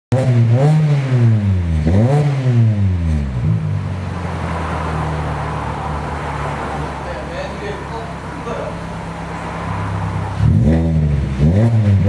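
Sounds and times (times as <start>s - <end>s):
car engine revving and idling: 0.1s - 12.0s.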